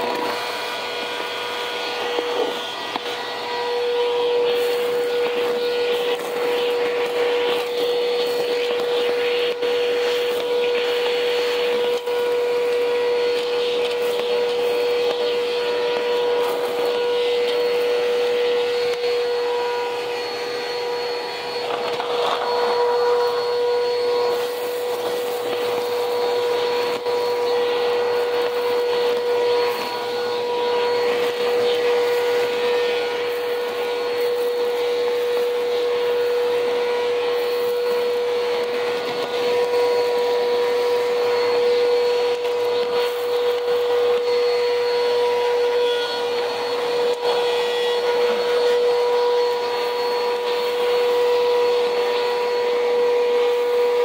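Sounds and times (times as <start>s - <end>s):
vacuum cleaner on bare cement: 0.0s - 54.0s.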